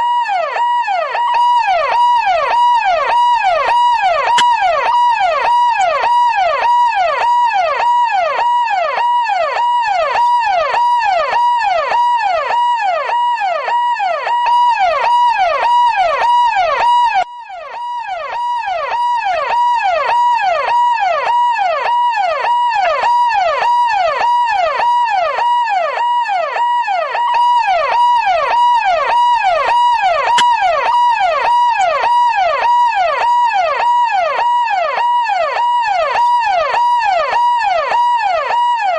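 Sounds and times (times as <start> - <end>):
police car siren: 0.0 - 38.9.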